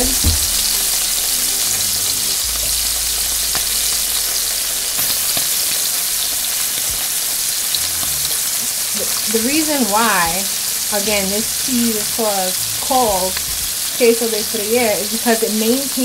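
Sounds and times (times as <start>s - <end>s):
cheese sizzling in hot oil: 0.0s - 16.0s.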